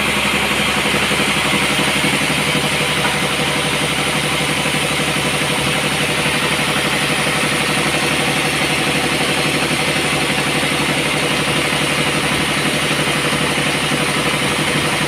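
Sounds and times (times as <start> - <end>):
sawmill engine pulsing: 0.0 - 15.0.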